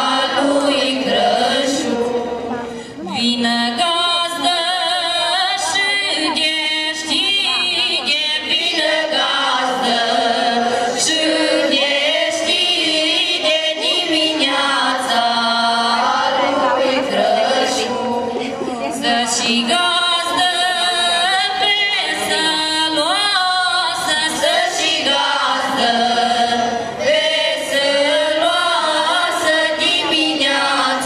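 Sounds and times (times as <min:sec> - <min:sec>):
female choir singing a carol: 0:00.0 - 0:31.0.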